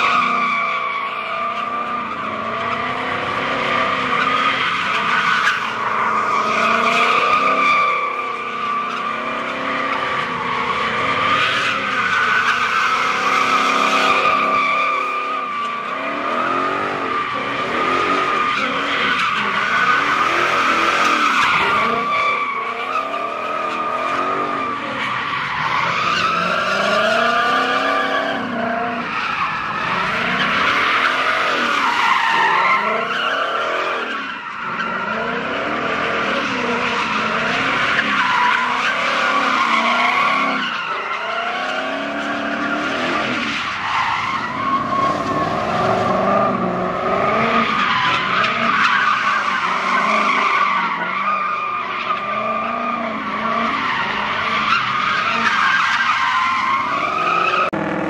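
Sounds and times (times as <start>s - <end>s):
car engine revving: 1.3s - 58.0s.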